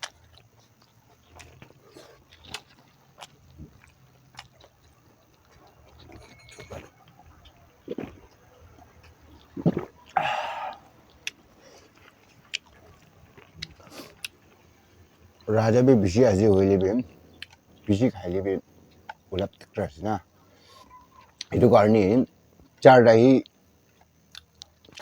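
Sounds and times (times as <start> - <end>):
person chewing with wet smacks: 0.0 - 15.6, 16.6 - 19.8, 23.4 - 25.0.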